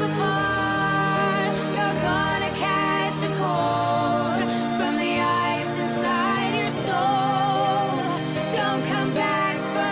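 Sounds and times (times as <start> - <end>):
string-like tones: 0.0 - 9.9
sustained piano: 0.0 - 9.9.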